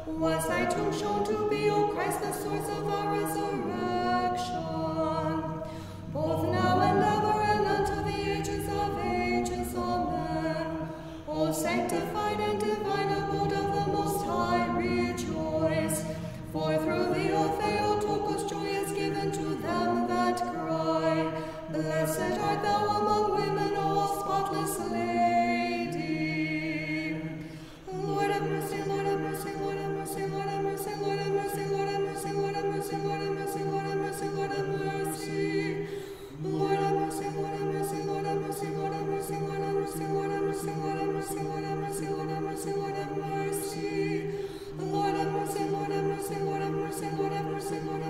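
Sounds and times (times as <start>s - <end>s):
choir chanting: 0.0s - 48.0s.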